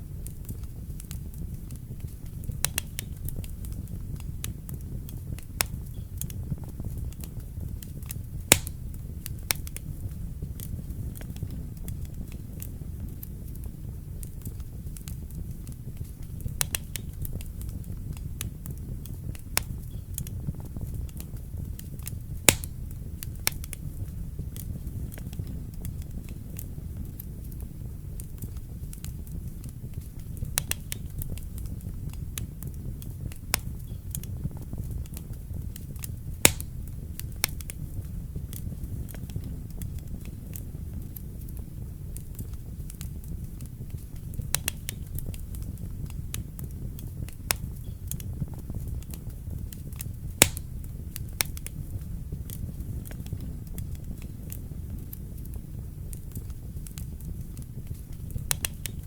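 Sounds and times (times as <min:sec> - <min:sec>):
fire crackles and pops: 0:00.0 - 0:59.0
wood fire rumbling: 0:00.0 - 0:59.0.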